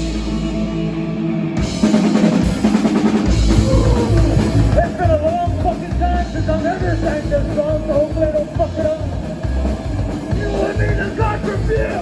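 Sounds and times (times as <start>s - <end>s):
live rock and roll band: 0.0s - 12.0s
drum and bass beat: 1.6s - 12.0s.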